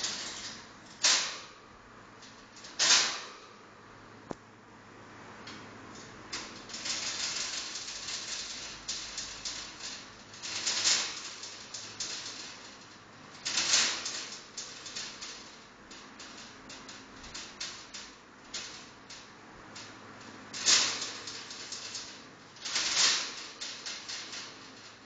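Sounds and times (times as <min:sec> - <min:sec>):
wire cage door rattling: 0:00.0 - 0:03.6, 0:06.3 - 0:25.0.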